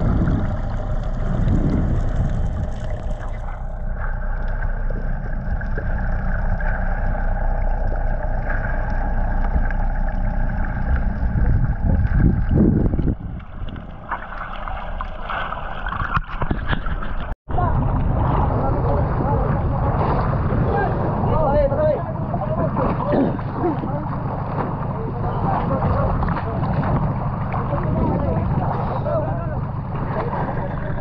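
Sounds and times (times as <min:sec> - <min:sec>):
underwater machinery hum: 0:00.0 - 0:31.0
water moving: 0:00.0 - 0:31.0.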